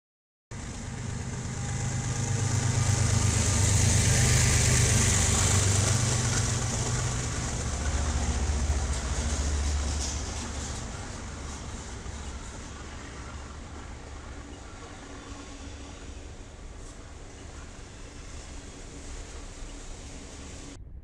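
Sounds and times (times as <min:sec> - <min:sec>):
diesel locomotive engines droning: 0:00.5 - 0:21.0
hiss: 0:01.0 - 0:20.8.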